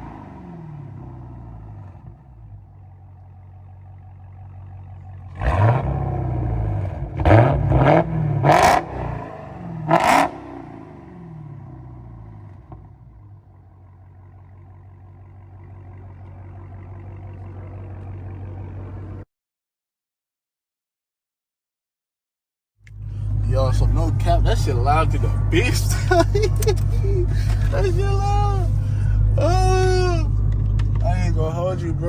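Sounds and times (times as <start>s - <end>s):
car engine idling and revving: 0.0s - 19.2s, 22.8s - 32.0s.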